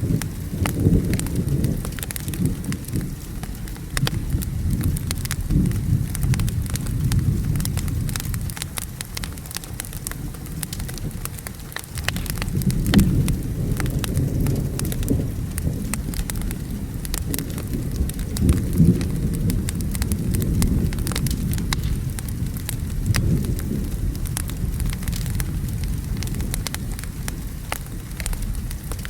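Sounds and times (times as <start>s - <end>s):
rolling thunder: 0.0s - 29.0s
steady rain: 0.0s - 29.0s
wood fire crackling: 0.0s - 29.0s.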